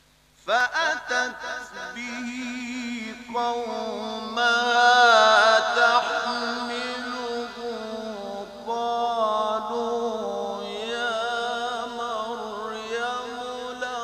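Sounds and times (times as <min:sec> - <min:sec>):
man reciting melodically: 0:00.4 - 0:14.0.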